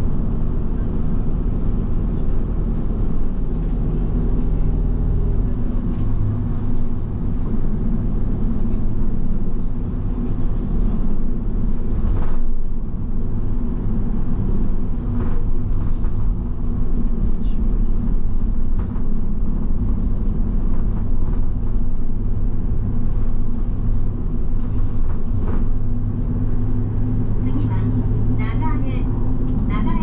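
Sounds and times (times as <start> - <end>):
vehicle engine and road drone: 0.0 - 30.0.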